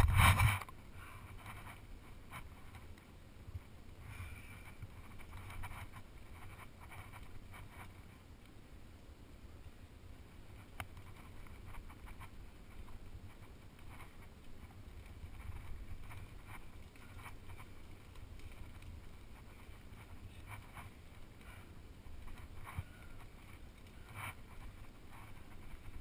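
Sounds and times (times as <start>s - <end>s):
scuffs and clicks against rock: 0.0s - 8.3s, 10.4s - 26.0s
wind rumbling on microphone: 0.0s - 26.0s.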